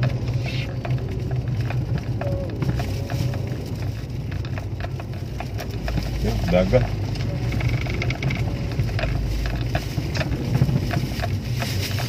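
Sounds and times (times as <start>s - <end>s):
car engine and road rumble: 0.0s - 12.0s
light clicks and rattles: 0.0s - 12.0s.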